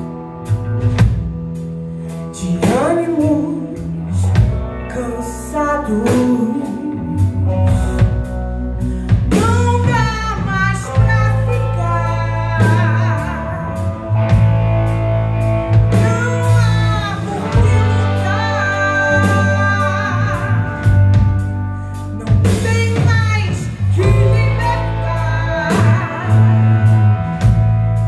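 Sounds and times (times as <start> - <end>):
drum kit: 0.0 - 5.0, 5.8 - 28.0
electric bass: 0.0 - 28.0
electric guitars: 0.0 - 28.0
woman singing into a microphone: 2.1 - 14.4, 15.9 - 27.6.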